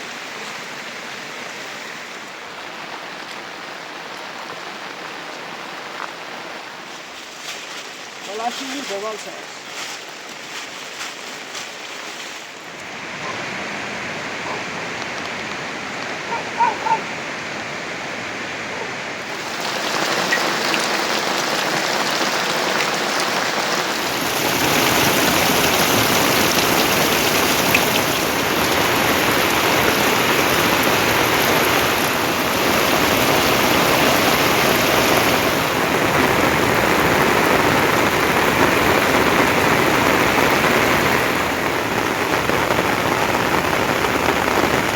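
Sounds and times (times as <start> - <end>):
steady rainfall hiss: 0.0 - 44.9.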